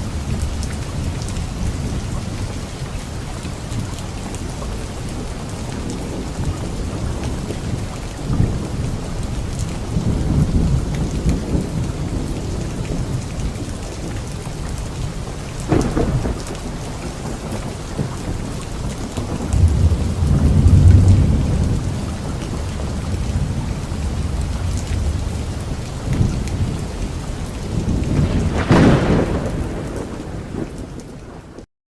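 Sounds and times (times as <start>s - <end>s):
rolling thunder: 0.0s - 31.6s
heavy rain falling: 0.0s - 31.7s
sharp thunderclaps: 5.2s - 31.6s.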